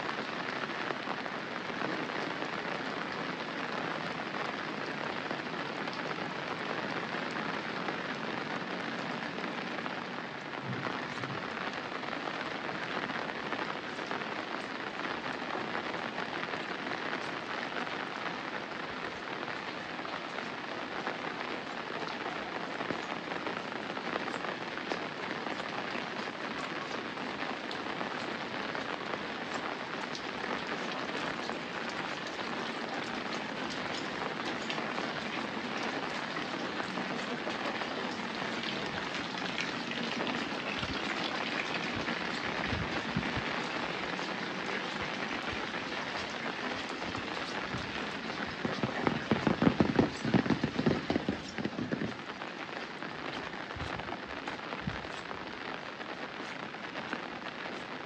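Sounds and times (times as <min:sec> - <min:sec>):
individual raindrops: 0:00.0 - 0:58.0
steady rain falling: 0:00.0 - 0:58.0.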